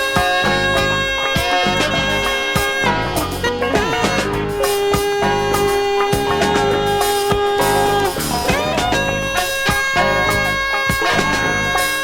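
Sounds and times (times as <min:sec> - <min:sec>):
funk band record playing: 0:00.0 - 0:12.0.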